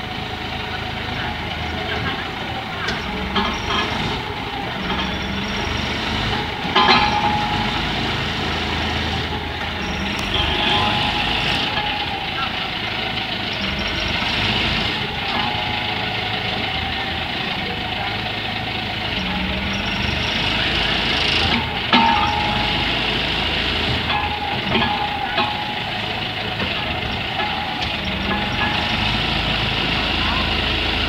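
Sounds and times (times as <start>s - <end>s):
drilling machine engine running: 0.0s - 31.0s
sharp metallic knocks: 1.2s - 17.3s, 19.2s - 31.0s.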